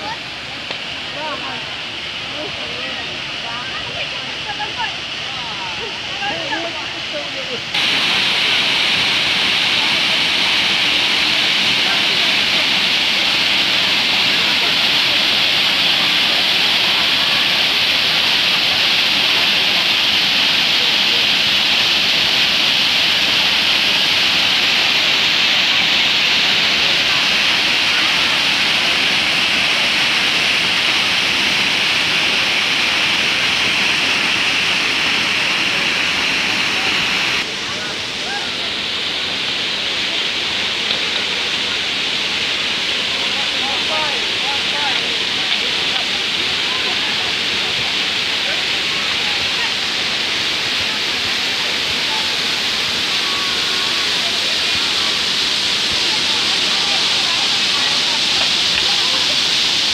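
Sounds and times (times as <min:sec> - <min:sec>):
people chattering: 0:00.0 - 0:59.9
waterfall rushing: 0:00.0 - 0:59.9.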